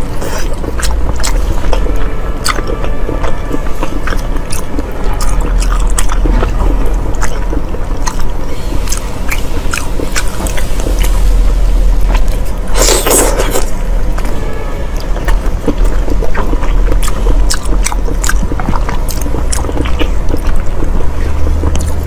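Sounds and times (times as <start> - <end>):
close-miked chewing and biting: 0.0 - 14.4, 15.0 - 22.0
low steady hum: 0.0 - 22.0.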